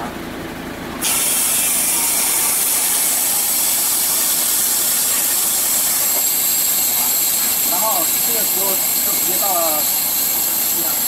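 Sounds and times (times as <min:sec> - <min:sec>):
compressed gas hissing through valve: 0:01.0 - 0:11.0.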